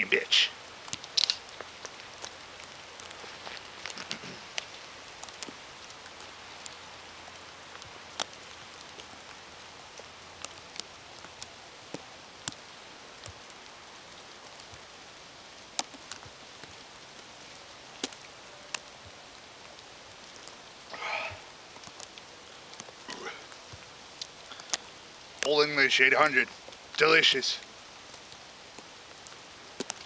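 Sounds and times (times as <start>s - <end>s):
drips from trees: 0.0s - 30.0s
snowstorm hiss: 0.0s - 30.0s.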